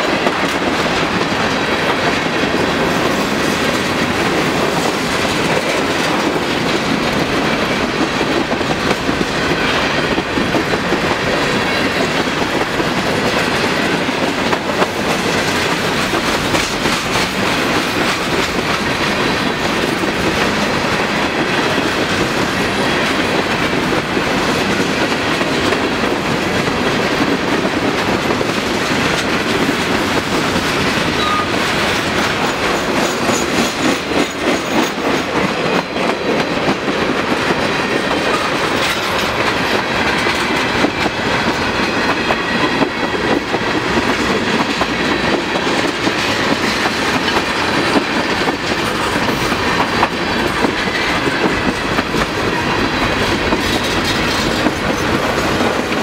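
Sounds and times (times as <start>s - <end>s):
freight train wheels rumbling: 0.0s - 56.0s
wheels clicking over track: 0.0s - 56.0s.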